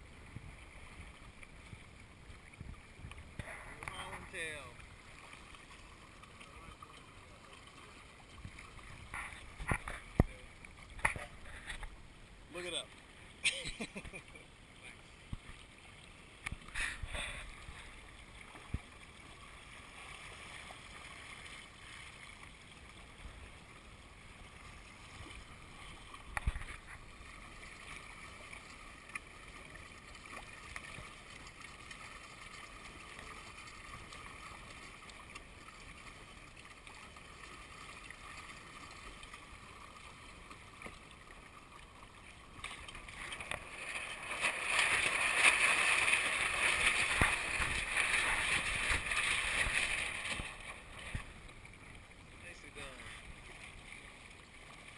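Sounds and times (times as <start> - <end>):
water lapping against hull: 0.0 - 54.9.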